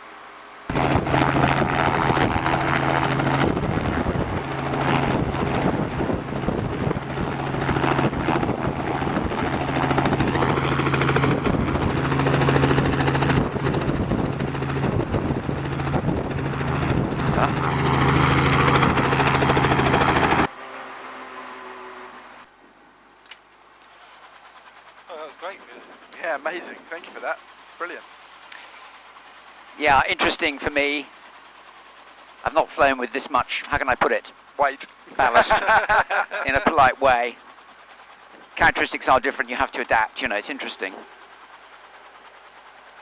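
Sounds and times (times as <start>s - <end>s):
helicopter rotor and engine: 0.6s - 43.0s.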